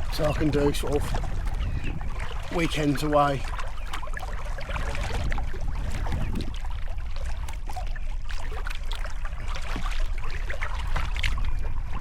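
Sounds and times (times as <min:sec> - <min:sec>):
water splashing off paddles: 0:00.0 - 0:12.0
wind rumble on microphone: 0:00.0 - 0:12.0.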